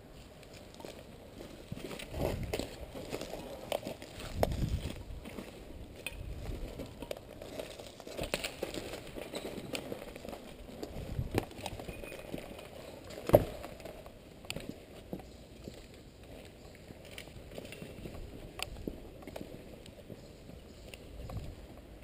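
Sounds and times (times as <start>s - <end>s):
footsteps on rubble: 0.1s - 22.0s.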